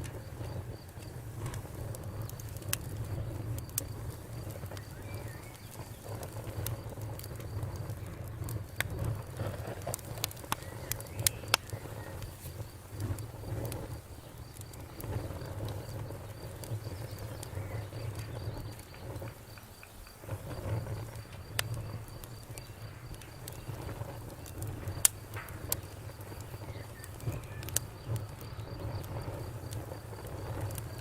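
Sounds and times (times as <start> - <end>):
burning wood crackling and popping: 0.0 - 31.0
campfire rumble: 0.0 - 31.0.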